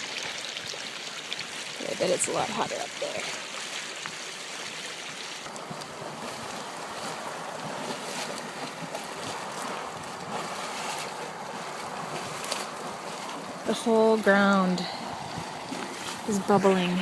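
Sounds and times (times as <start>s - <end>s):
hot spring water bubbling: 0.0s - 17.0s.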